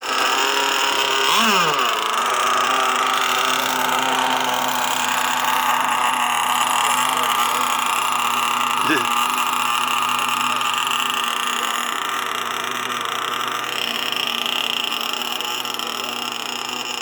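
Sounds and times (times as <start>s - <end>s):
model boat motor running: 0.0s - 17.0s.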